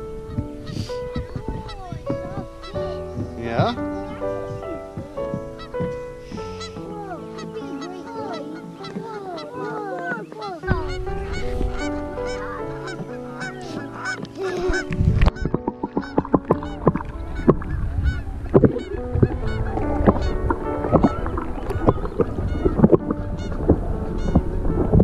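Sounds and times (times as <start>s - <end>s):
geese honking: 0.0s - 24.8s
background music held notes: 0.0s - 25.0s.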